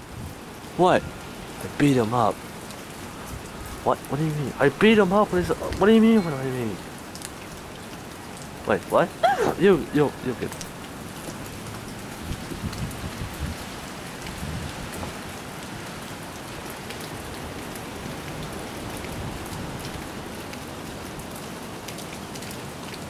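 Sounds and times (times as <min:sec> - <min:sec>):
rain pattering on surfaces: 0:00.0 - 0:23.0.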